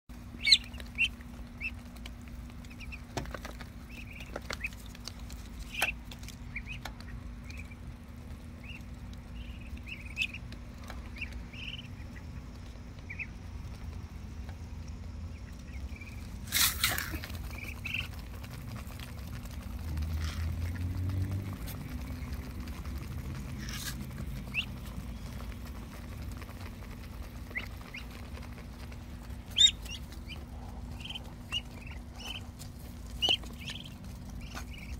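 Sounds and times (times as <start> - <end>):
ducklings peeping: 0.1 - 34.9
low rumble: 0.1 - 34.9
steady low hum: 0.1 - 34.9.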